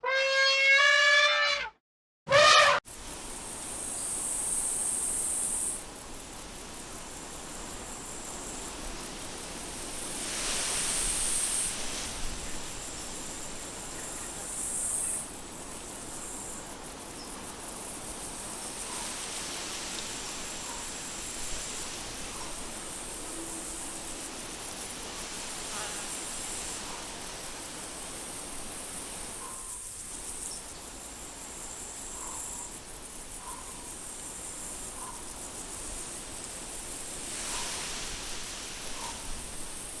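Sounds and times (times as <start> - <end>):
even hiss: 2.3 - 40.0.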